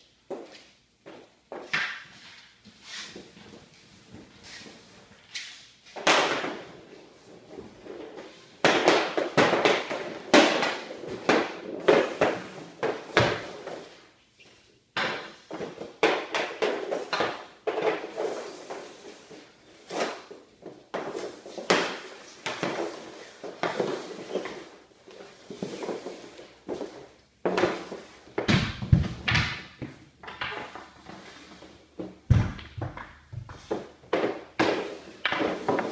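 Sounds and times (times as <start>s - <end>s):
hockey pucks clattering on plastic: 0.3s - 2.5s, 5.3s - 14.1s, 14.9s - 35.9s.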